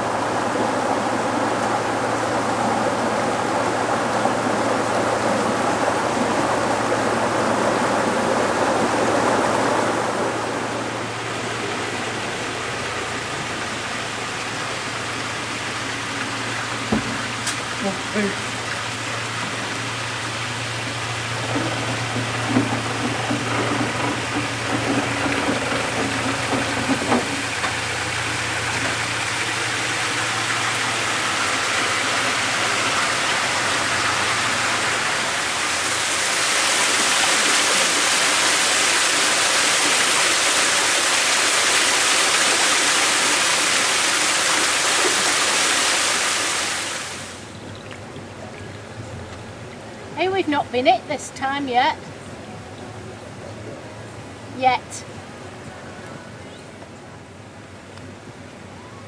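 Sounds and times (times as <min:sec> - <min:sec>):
boat engine humming: 0:00.0 - 0:44.4, 0:47.2 - 0:59.0
water rushing into lock: 0:00.0 - 0:56.0.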